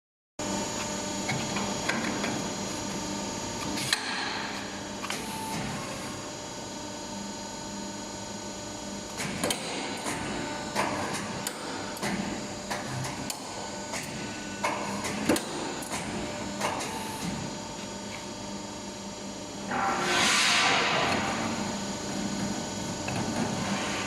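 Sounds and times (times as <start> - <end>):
machine humming with fixed tones: 0.4 - 24.0.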